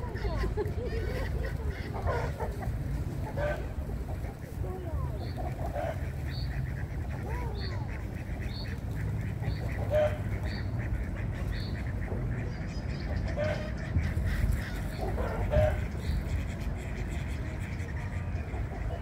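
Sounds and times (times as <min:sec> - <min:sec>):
quack-like bird calls: 0:00.0 - 0:04.4, 0:05.1 - 0:19.0
steady low rumble: 0:00.0 - 0:19.0.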